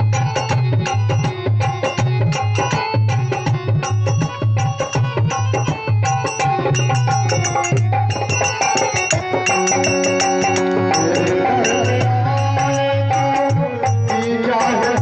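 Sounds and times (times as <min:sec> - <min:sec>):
hand drums rhythm: 0:00.0 - 0:15.0
held notes: 0:00.0 - 0:15.0.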